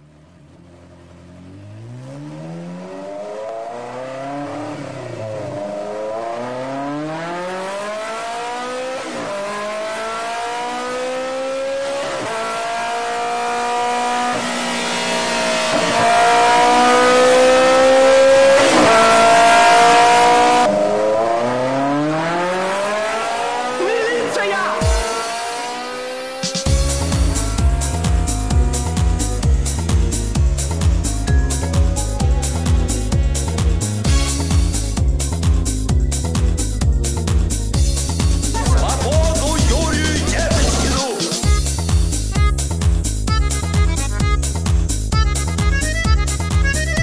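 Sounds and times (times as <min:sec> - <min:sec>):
car engine accelerating hard: 0:00.0 - 0:47.0.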